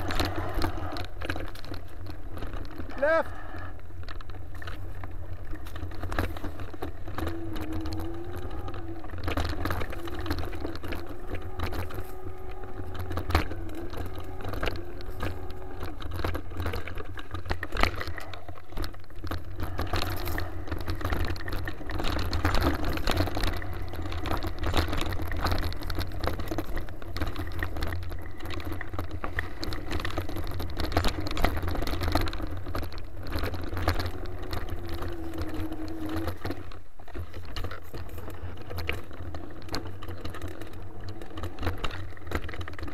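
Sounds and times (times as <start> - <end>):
bike rattling over bumps: 0.0 - 42.9
wind rumble on microphone: 0.0 - 42.9.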